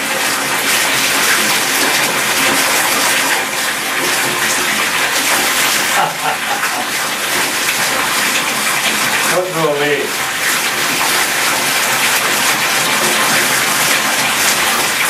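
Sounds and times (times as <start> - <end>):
water gushing into bathtub: 0.0 - 15.0.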